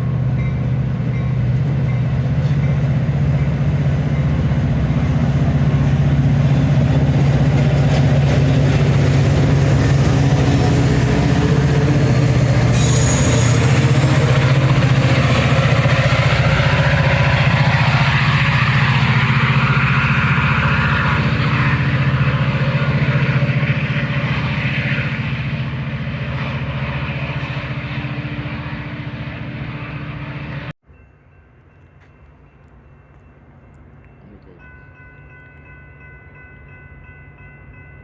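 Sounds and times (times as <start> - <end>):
train rumbling past on rails: 0.0 - 38.0.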